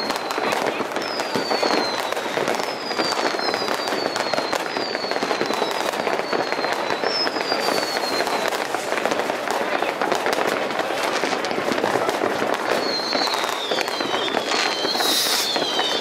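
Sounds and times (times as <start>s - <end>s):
falling firework whistles: 0.0s - 9.3s, 10.2s - 16.0s
firecrackers crackling: 0.0s - 16.0s.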